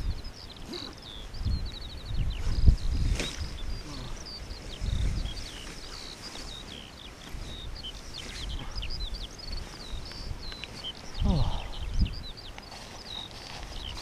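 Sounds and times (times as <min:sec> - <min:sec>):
songbird singing: 0:00.0 - 0:14.0
wind rumbling on microphone: 0:00.0 - 0:14.0.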